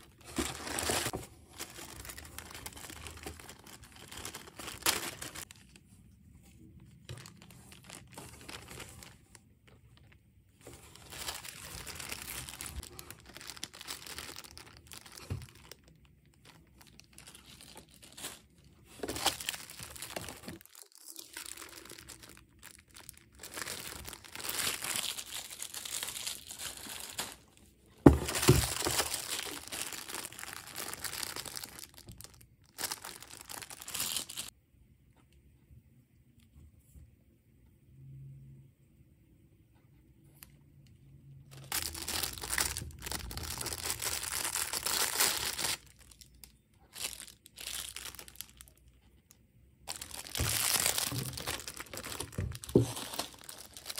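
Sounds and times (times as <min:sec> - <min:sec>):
plastic bags crinkling: 0:00.0 - 0:05.8, 0:06.7 - 0:34.5, 0:41.5 - 0:53.9.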